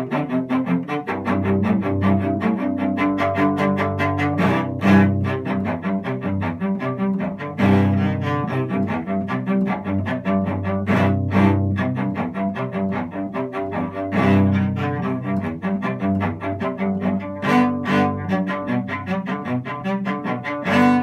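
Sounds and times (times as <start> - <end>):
bowed cello notes: 0.0 - 21.0.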